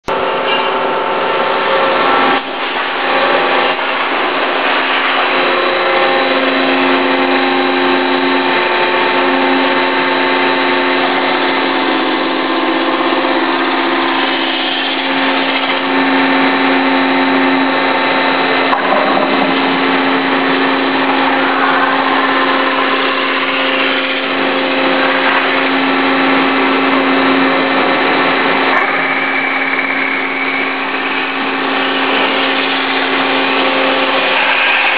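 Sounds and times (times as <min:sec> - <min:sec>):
machinery whirring: 0:00.0 - 0:34.9.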